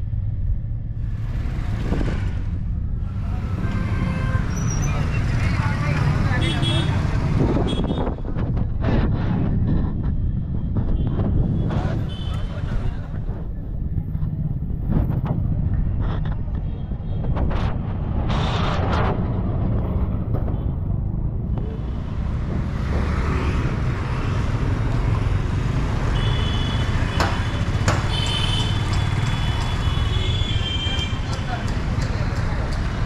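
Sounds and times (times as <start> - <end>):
wind and engine rumble: 0.0 - 26.2, 26.8 - 33.0.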